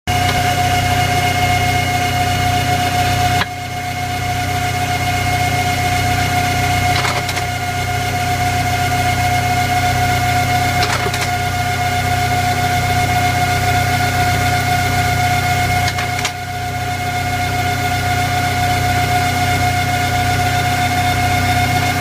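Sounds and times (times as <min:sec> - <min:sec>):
lathe whining: 0:00.1 - 0:22.0.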